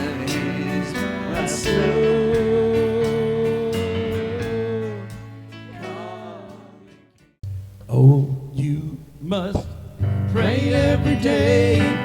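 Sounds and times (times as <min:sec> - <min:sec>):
guitar accompaniment: 0:00.0 - 0:12.0.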